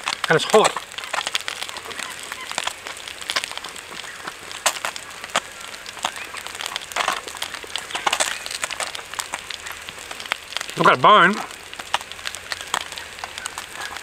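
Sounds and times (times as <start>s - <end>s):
wet chewing smacks: 0.0s - 14.0s.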